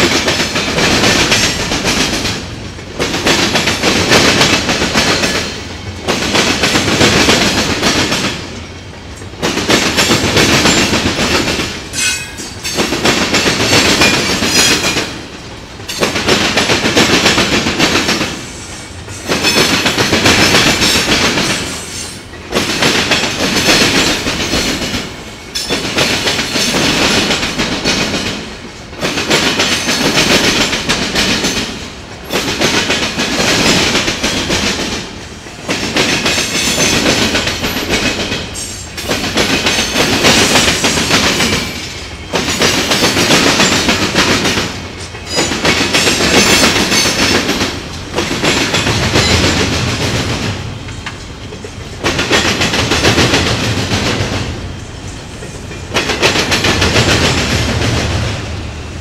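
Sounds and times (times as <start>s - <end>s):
steel wheels clattering over crossing: 0.0s - 58.5s.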